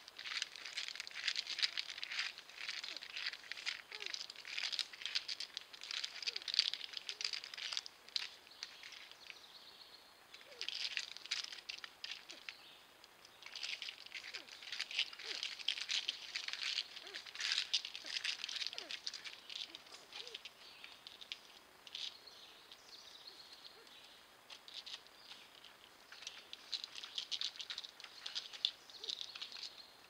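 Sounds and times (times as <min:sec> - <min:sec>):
claws scratching on tree bark: 0:00.0 - 0:09.4, 0:10.4 - 0:12.6, 0:13.2 - 0:22.2, 0:24.5 - 0:29.8.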